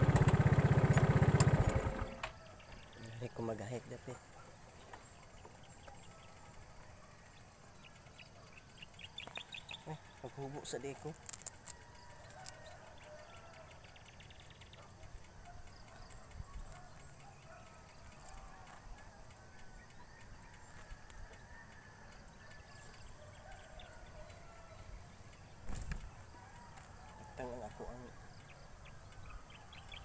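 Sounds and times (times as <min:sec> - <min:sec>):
distant bird calls: 0:01.8 - 0:30.0.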